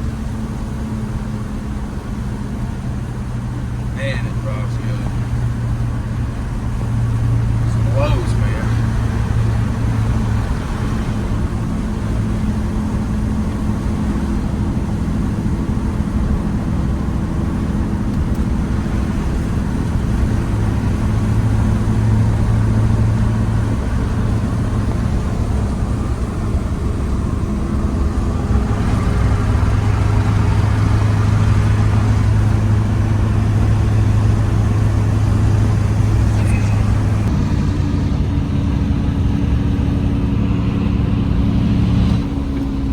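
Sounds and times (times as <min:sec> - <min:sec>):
diesel truck exhaust drone: 0:00.0 - 0:42.9.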